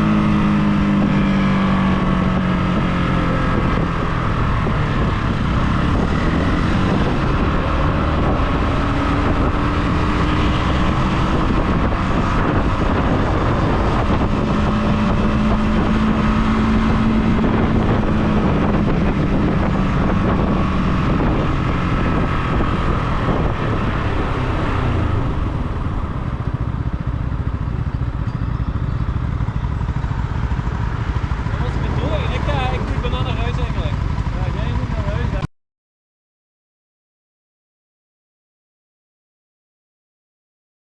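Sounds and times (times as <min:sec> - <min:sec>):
motorcycle engine running: 0:00.0 - 0:35.5
wind and road noise: 0:00.0 - 0:35.5.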